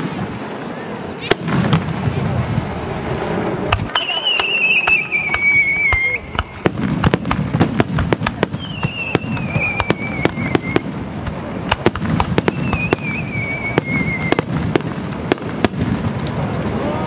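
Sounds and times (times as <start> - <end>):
high firework whistle: 0.0 - 11.1, 11.8 - 16.0.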